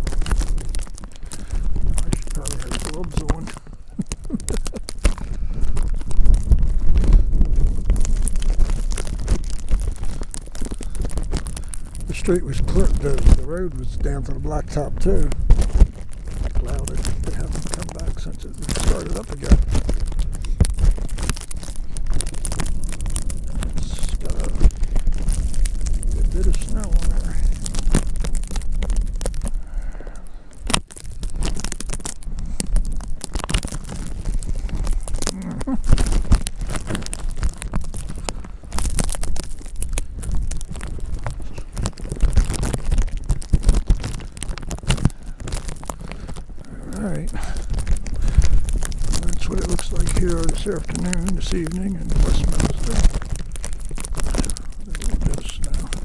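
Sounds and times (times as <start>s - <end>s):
bag crinkling and rustling: 0.0s - 56.0s
crackling: 0.0s - 56.0s
wind buffeting microphone: 0.0s - 56.0s.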